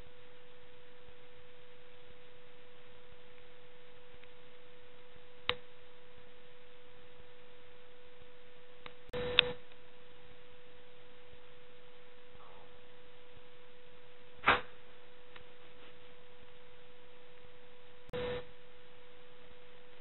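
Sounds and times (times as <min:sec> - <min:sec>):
steady single-pitch hum: 0:00.0 - 0:20.0.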